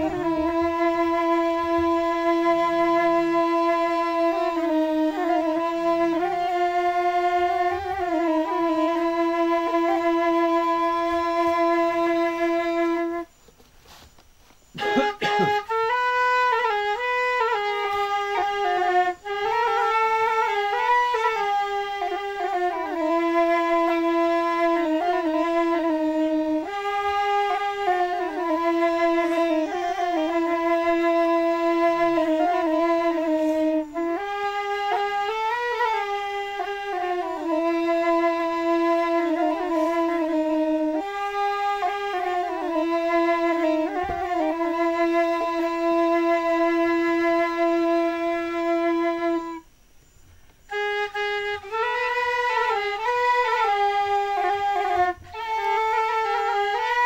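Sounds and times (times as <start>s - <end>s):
wind instrument slow melody: 0.0s - 57.0s.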